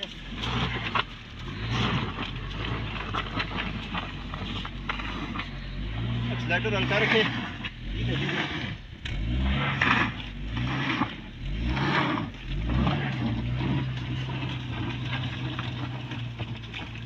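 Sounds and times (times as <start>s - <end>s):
car engine revving: 0.0s - 17.0s
wheels spinning in slush: 0.0s - 17.0s.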